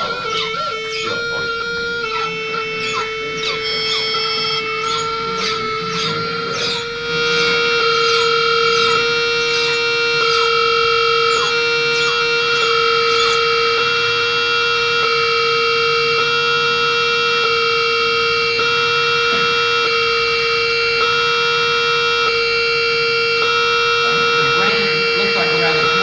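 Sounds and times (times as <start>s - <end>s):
pulsing electronic drone: 0.0s - 26.0s.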